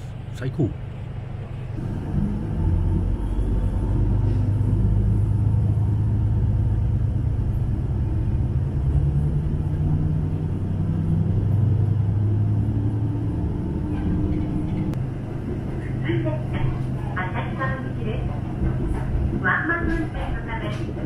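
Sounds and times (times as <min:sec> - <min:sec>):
train engine rumble: 0:00.0 - 0:21.0.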